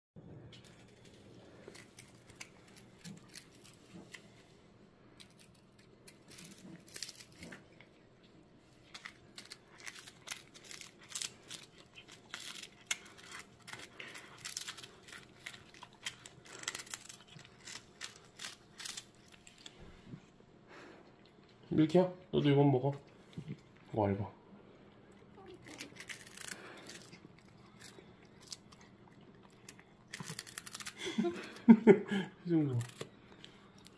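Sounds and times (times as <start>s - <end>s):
cat crunching dried fish: 0.5s - 4.4s, 5.0s - 20.3s, 22.9s - 31.8s, 32.5s - 33.9s.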